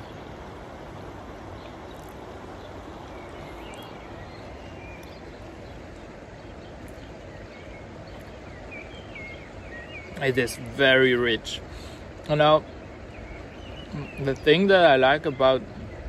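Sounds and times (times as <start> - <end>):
steady outdoor background noise: 0.0 - 16.0
faint bird calls: 0.9 - 16.0.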